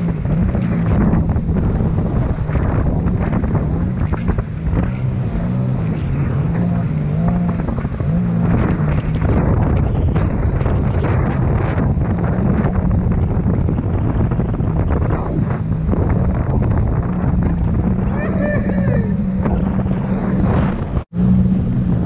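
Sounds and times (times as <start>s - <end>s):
jet ski engine running: 0.0s - 22.0s
water rushing and spraying: 0.0s - 22.0s
wind buffeting microphone: 0.0s - 22.0s.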